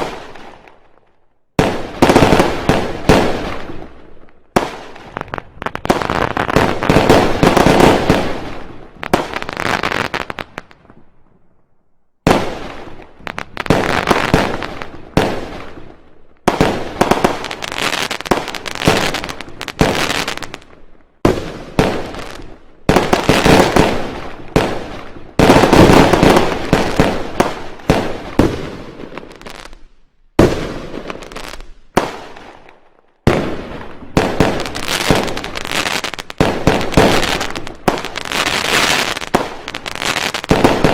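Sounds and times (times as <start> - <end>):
fireworks bangs and crackles: 0.0 - 11.6, 12.2 - 40.9.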